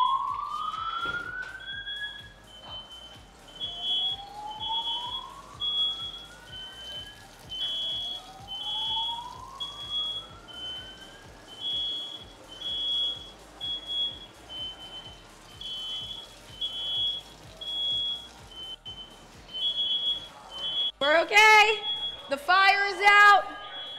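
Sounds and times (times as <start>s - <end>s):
smoke alarm beeping: 0.0s - 23.9s.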